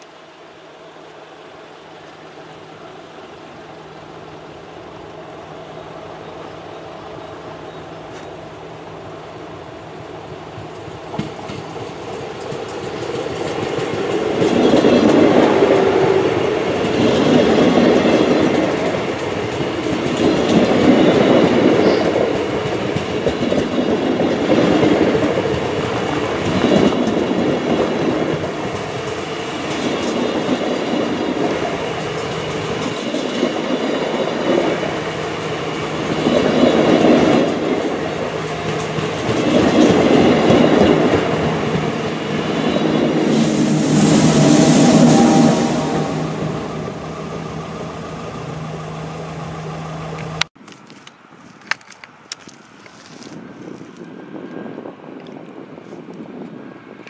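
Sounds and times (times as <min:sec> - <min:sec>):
passenger train passing: 0:00.0 - 0:50.5, 0:53.3 - 0:57.0.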